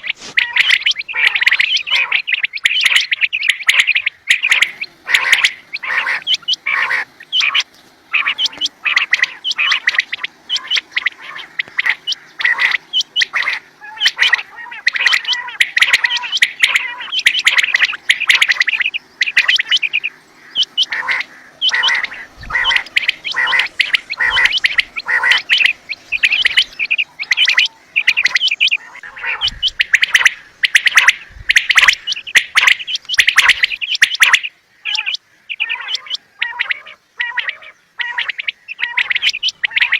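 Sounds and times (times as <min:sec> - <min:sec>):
quails chirping: 0:00.0 - 0:39.9.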